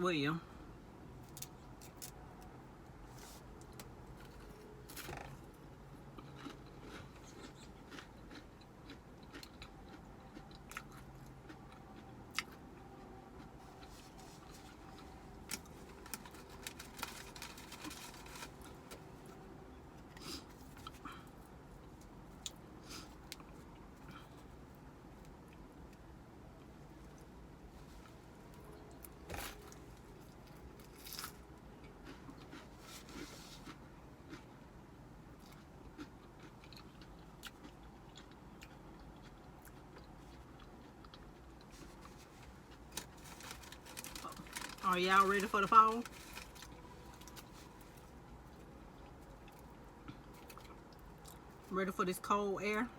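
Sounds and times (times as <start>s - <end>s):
person chewing: 3.6s - 18.8s, 20.0s - 26.0s, 27.0s - 34.5s, 35.3s - 44.8s, 46.0s - 51.7s.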